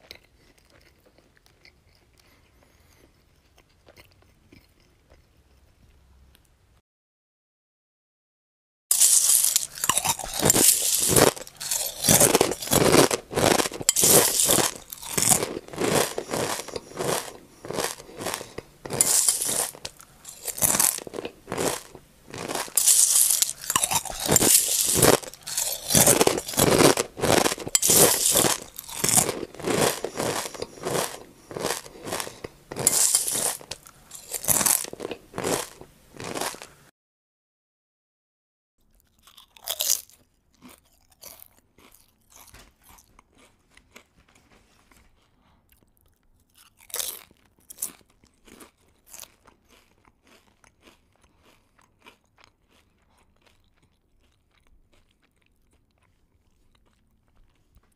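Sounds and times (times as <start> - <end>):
person chewing crunchy food: 0.0 - 5.7, 8.9 - 36.9, 38.9 - 57.9.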